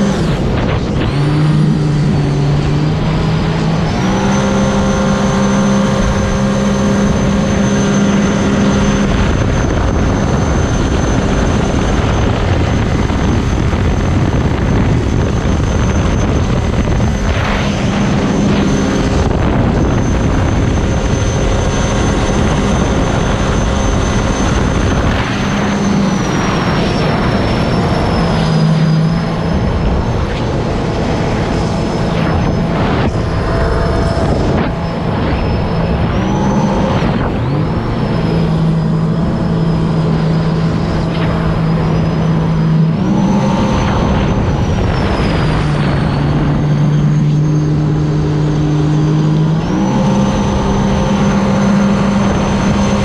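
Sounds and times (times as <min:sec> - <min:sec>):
high steady whine: 0:00.0 - 0:53.0
jet ski engine running: 0:00.0 - 0:53.0
wind: 0:00.0 - 0:53.0.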